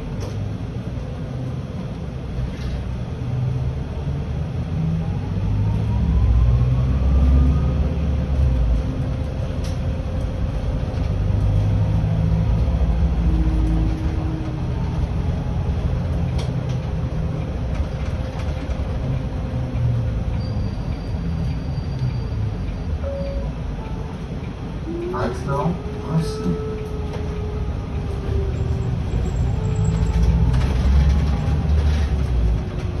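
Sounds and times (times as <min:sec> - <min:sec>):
bus drivetrain and road rumble: 0:00.0 - 0:33.0.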